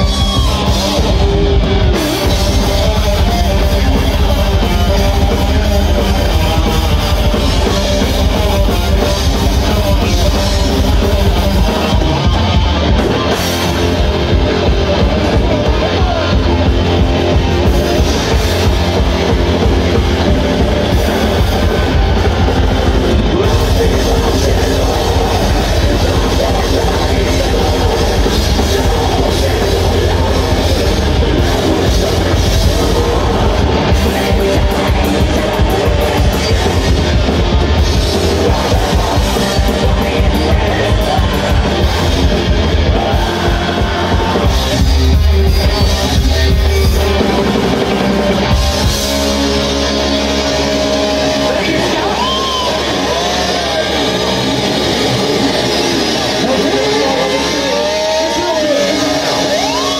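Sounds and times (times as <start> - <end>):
heavy metal band playing: 0.0 - 59.9.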